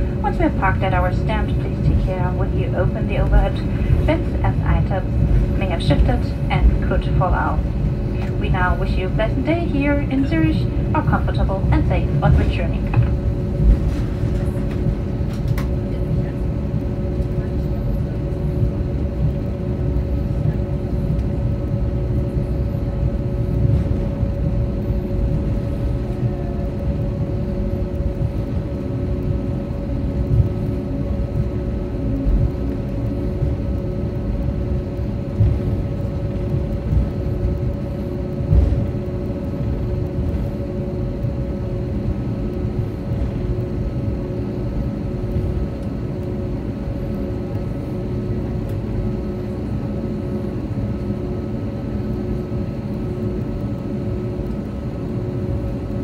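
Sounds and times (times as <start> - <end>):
aircraft cabin rumble: 0.0 - 56.0
jet engine idling hum: 0.0 - 56.0.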